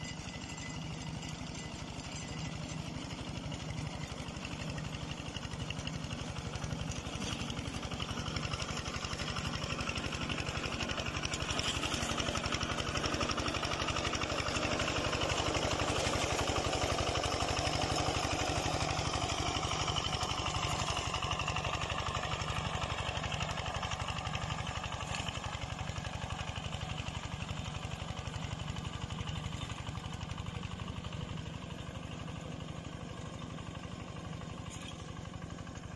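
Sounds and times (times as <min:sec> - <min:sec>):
diesel engine chugging: 0:00.0 - 0:35.9.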